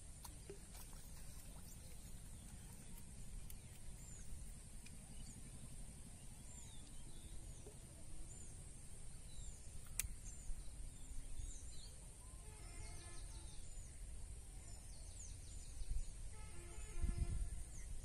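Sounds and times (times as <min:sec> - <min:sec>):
small birds chirping: 0:00.0 - 0:16.2.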